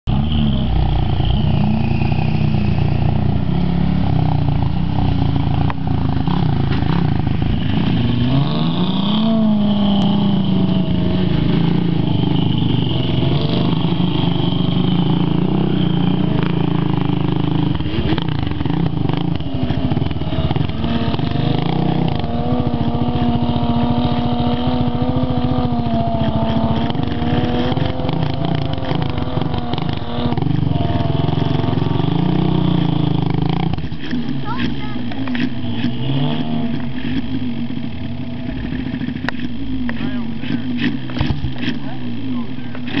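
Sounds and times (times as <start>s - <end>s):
pickup engine revving under load: 0.1s - 43.0s.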